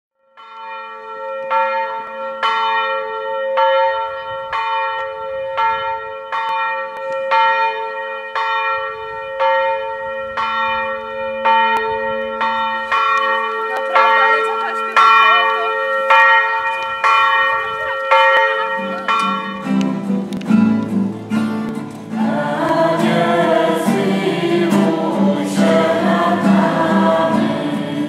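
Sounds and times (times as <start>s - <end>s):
church bell tolling: 0.2s - 28.0s.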